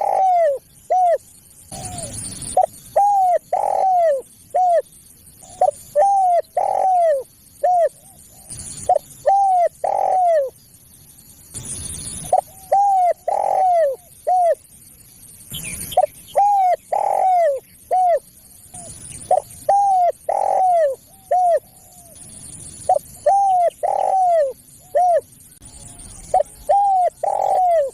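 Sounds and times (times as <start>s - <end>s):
dove cooing: 0.0s - 10.6s, 12.2s - 14.7s, 15.6s - 22.2s, 22.8s - 27.9s.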